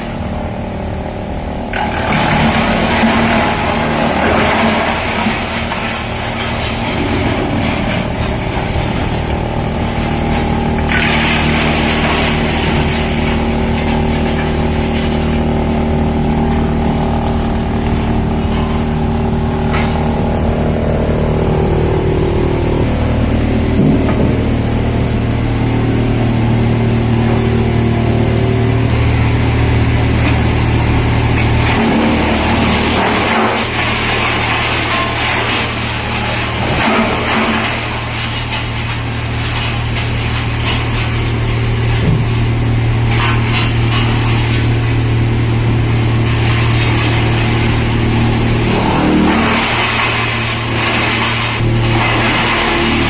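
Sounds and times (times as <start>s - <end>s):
wood chipper grinding: 0.0s - 53.0s.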